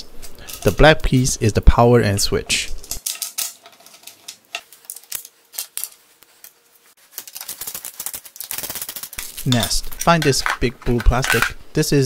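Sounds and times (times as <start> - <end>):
small parts being handled: 0.0 - 1.4, 2.7 - 11.6.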